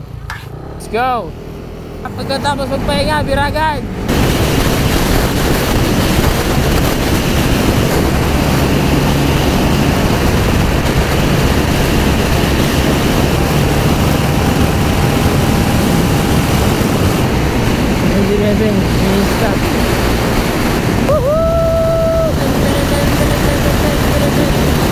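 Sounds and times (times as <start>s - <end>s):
motorcycle engine running: 0.0s - 21.3s, 21.9s - 24.9s
wind rush over microphone: 2.5s - 24.9s.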